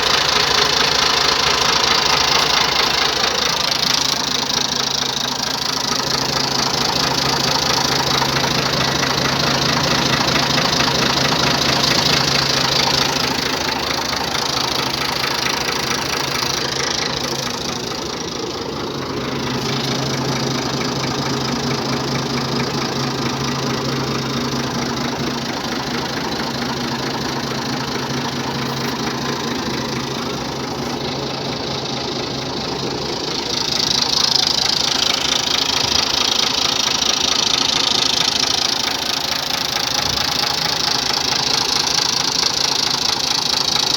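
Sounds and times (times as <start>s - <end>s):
rapid knocking clatter: 0.0s - 43.9s
tractor engine idling: 0.0s - 43.9s.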